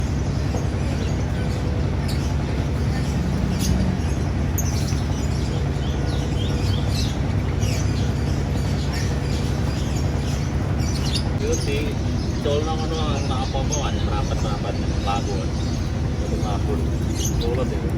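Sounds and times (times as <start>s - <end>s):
low background rumble: 0.0s - 17.9s
small birds chirping: 0.0s - 17.9s.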